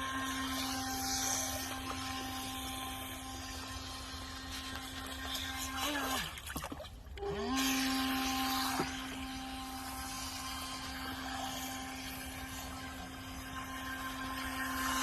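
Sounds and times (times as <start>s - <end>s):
small electric motor whining: 0.0s - 6.4s, 7.1s - 15.0s.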